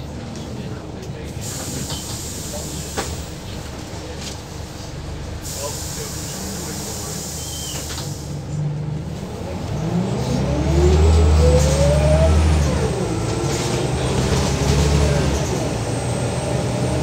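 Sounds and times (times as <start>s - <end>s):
bus diesel engine: 0.0s - 17.0s.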